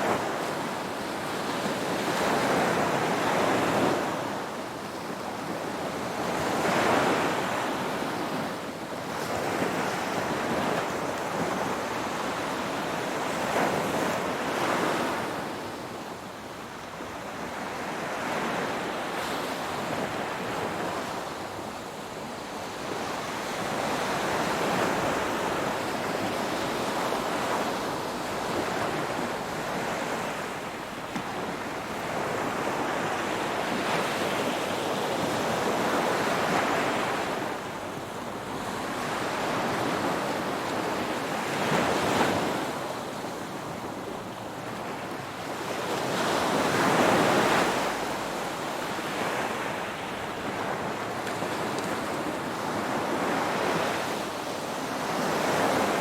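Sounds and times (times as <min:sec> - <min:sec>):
ocean waves breaking on shore: 0:00.0 - 0:56.0
wind: 0:00.0 - 0:56.0.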